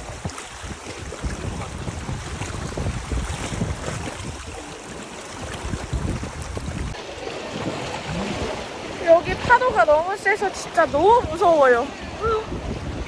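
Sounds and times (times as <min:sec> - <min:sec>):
waves breaking and washing: 0:00.0 - 0:13.0
wind gusting against microphone: 0:00.0 - 0:13.0.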